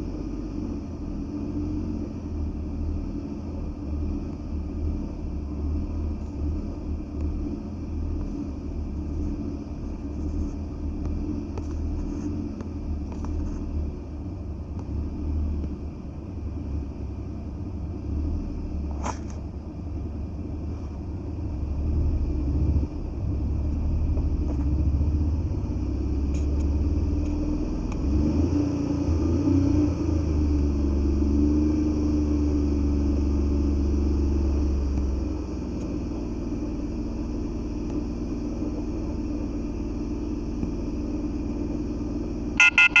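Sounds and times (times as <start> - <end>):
car engine idling low rumble: 0.0 - 43.0.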